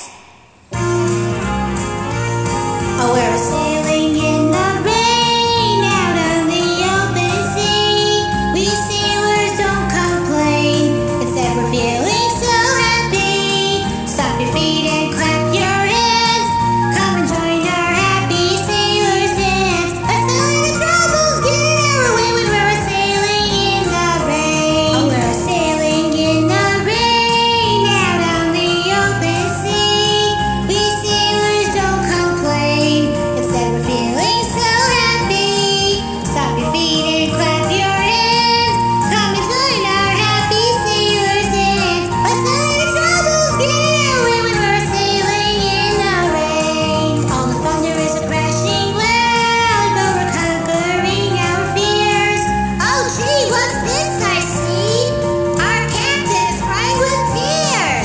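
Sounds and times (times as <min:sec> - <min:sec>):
backing track with bass line: 0:00.7 - 0:58.0
woman singing: 0:03.0 - 0:58.0.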